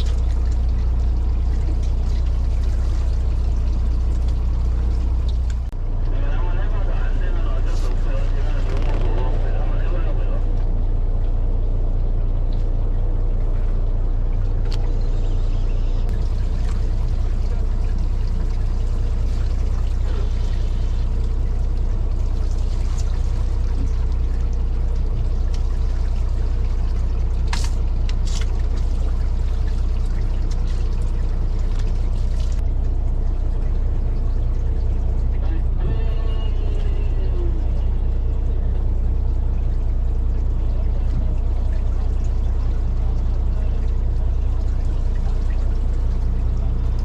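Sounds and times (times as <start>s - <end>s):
boat engine running: 0.0s - 47.0s
water rushing past hull: 0.0s - 47.0s.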